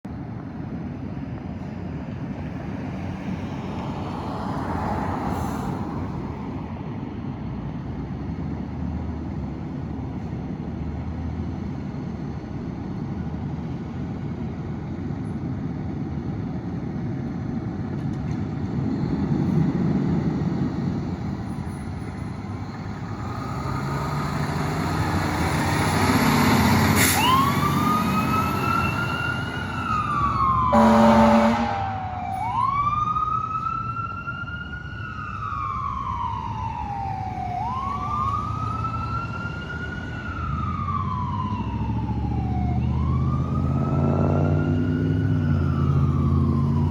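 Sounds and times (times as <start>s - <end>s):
street traffic: 0.0s - 46.9s
fire engine approaching: 0.1s - 46.9s.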